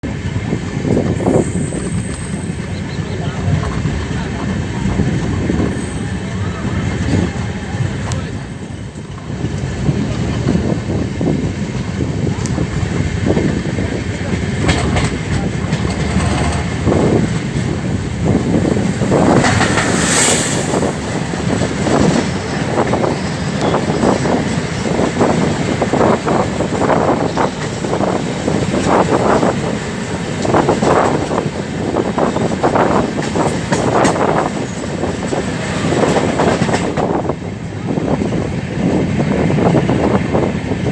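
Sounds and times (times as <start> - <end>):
train rumble: 0.0 - 40.9
train wheels clattering over rail joints: 0.9 - 37.5.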